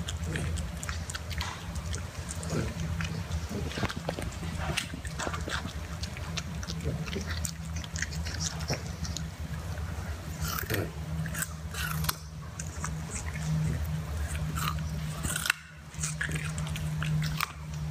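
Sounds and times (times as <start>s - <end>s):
puppy crunching a carrot: 0.0s - 17.9s
steady low hum: 0.0s - 17.9s.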